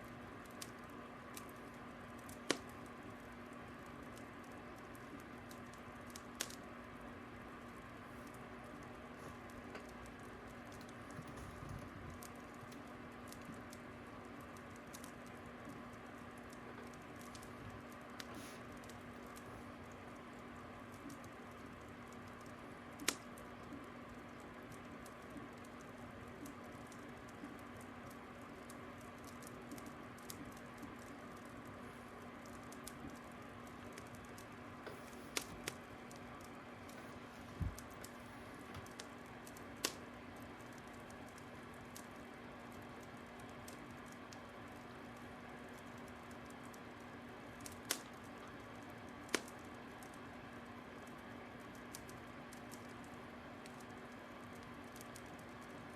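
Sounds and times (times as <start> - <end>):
fire crackling: 0.0 - 55.9.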